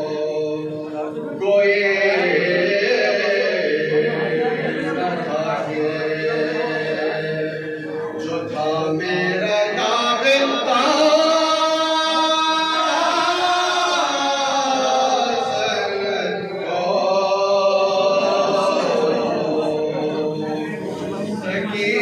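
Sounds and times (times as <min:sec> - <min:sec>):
man chanting a mournful lament: 0:00.0 - 0:22.0.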